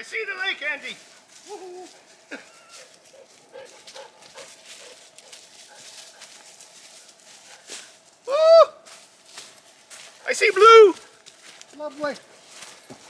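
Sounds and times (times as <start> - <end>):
footsteps in dry leaves: 0.2 - 13.0.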